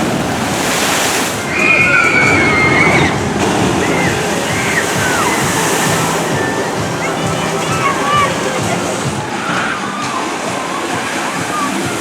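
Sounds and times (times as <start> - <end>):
high-pitched calls: 0.0 - 12.0
rushing sloshing water: 0.0 - 12.0.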